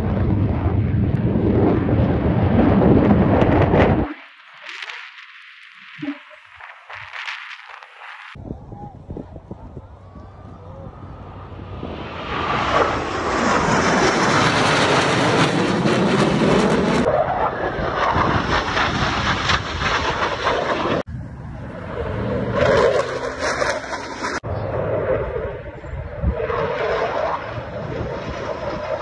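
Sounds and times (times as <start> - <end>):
jets roaring in flyby: 0.0 - 8.4, 9.2 - 29.0.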